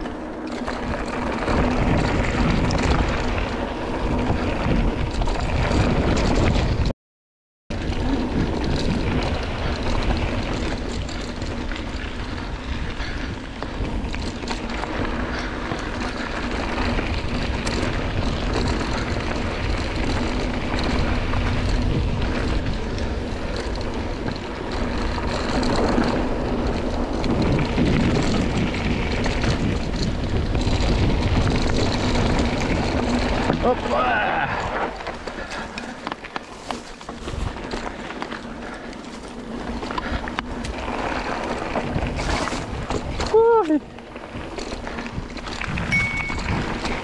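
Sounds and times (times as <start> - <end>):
bike tyres rolling on gravel: 0.0 - 6.9, 7.7 - 47.0
wind on camera microphone: 0.7 - 6.9, 7.7 - 35.2, 39.2 - 47.0.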